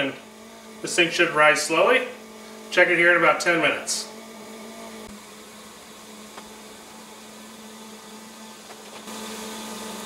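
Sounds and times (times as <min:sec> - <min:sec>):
steady electrical hum: 0:00.0 - 0:09.2.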